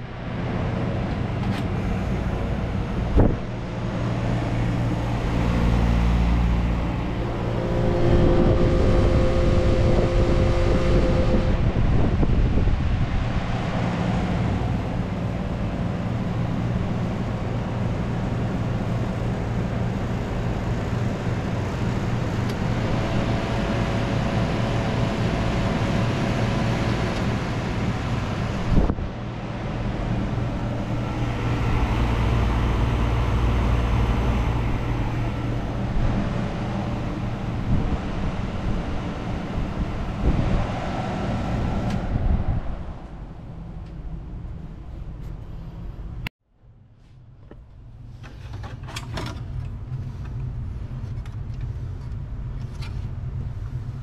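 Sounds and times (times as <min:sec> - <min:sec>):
air conditioner running: 0:00.0 - 0:54.0.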